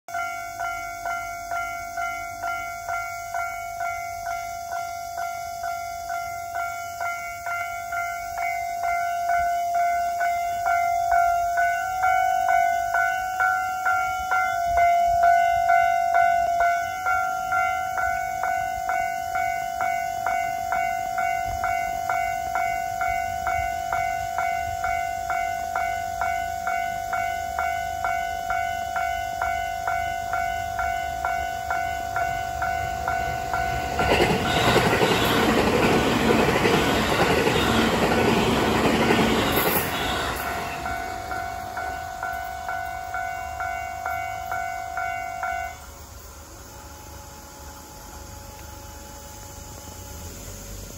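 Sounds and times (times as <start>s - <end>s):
level crossing warning bell: 0.1s - 50.3s
train passing: 0.1s - 50.9s.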